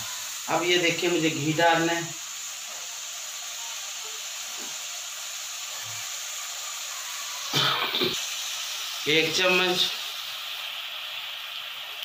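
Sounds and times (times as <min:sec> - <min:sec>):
pot hissing on a stove: 0:00.0 - 0:12.0.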